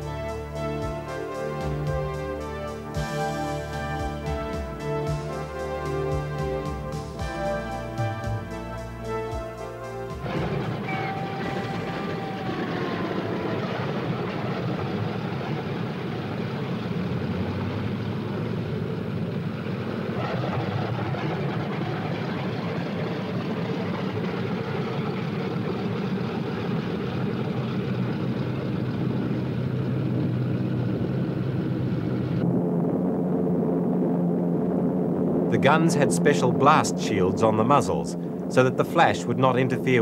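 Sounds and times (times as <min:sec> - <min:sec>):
aircraft piston engines droning: 0:00.0 - 0:32.8, 0:33.9 - 0:40.0
whining tone dropping in pitch: 0:03.1 - 0:40.0.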